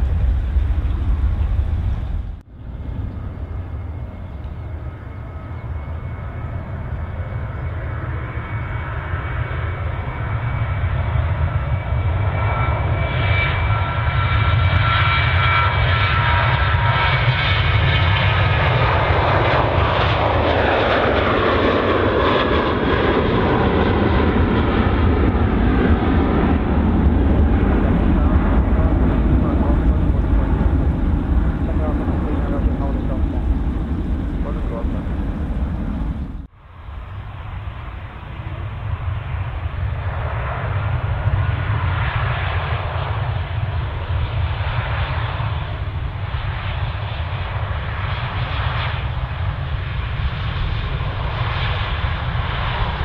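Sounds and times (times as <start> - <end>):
jet engines roaring at takeoff: 0.0 - 53.0.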